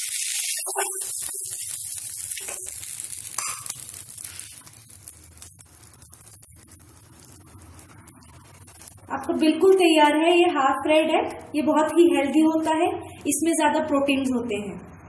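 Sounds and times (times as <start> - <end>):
oil sizzling on hot pan: 0.0 - 14.2.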